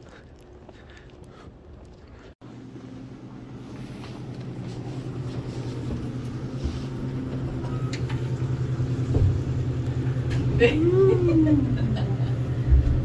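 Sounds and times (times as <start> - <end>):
elevator hum: 2.5 - 13.0.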